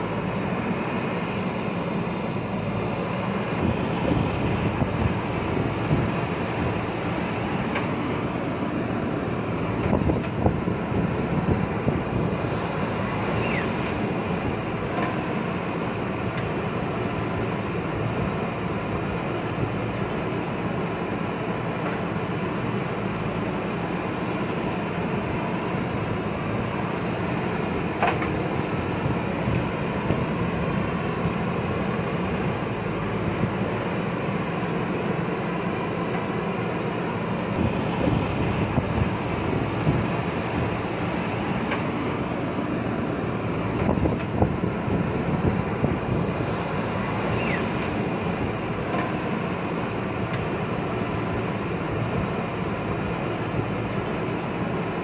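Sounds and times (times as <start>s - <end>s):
diesel digger engine under load: 0.0s - 55.0s.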